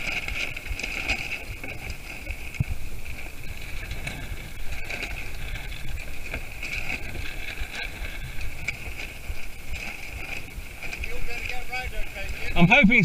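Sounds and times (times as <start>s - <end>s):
water sloshing against hull: 0.0s - 13.0s
wind buffeting microphone: 0.0s - 13.0s.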